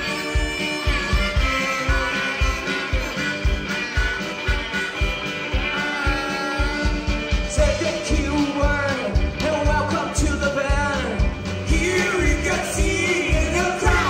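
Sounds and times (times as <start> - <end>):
rock music with sung vocal: 0.0 - 14.0
steady drum beat: 0.0 - 14.0.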